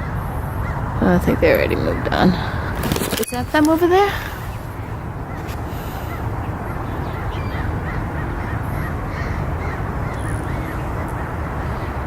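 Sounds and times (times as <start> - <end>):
distant parrots squawking: 0.0 - 12.0
steady low rumble: 0.0 - 12.0.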